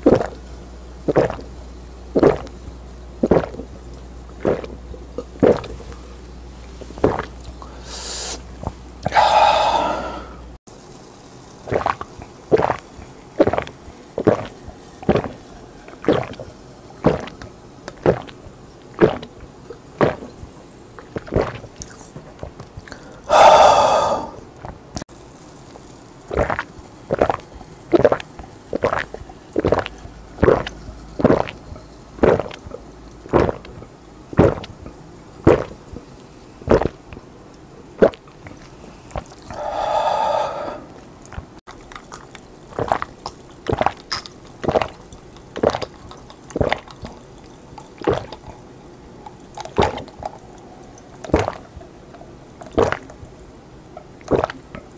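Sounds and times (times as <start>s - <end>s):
person gulping drink: 0.0s - 0.4s, 1.1s - 1.5s, 2.2s - 2.6s, 3.2s - 6.0s, 6.8s - 10.4s, 11.7s - 24.8s, 26.3s - 37.2s, 37.9s - 53.2s, 54.0s - 54.9s.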